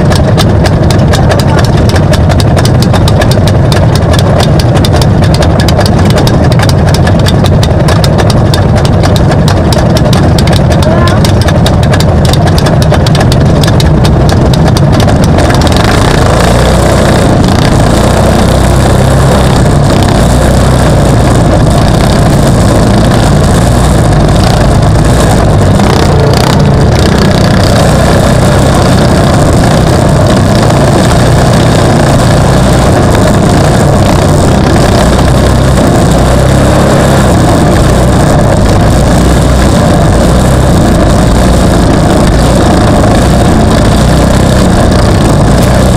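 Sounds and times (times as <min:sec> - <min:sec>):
off-road vehicle engines racing: 0:00.0 - 0:45.9
sharp clicks: 0:00.0 - 0:45.9.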